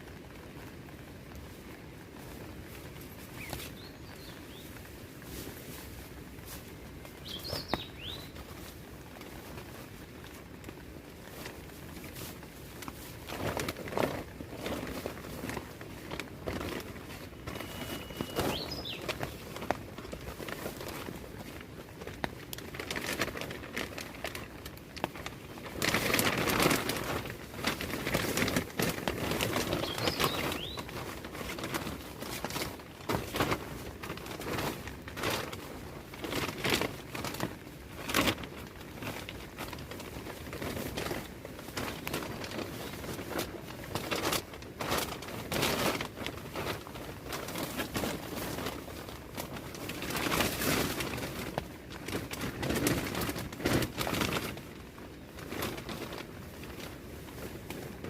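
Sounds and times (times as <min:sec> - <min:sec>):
rustling and crinkling: 0:00.0 - 0:58.0.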